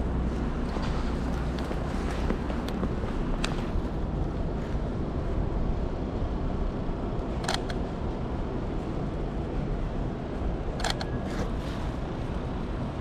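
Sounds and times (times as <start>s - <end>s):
street traffic rumble: 0.0s - 13.0s
wind: 0.0s - 13.0s.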